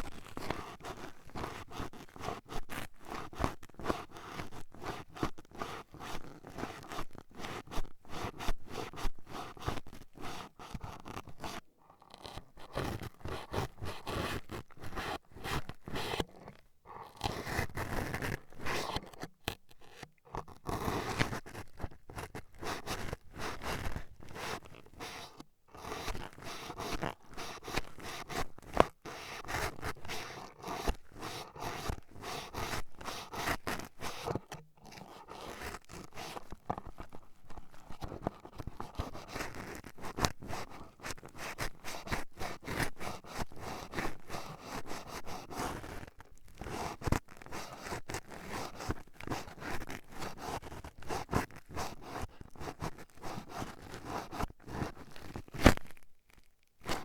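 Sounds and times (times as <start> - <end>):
toothpick scraping microphone: 0.0 - 57.0.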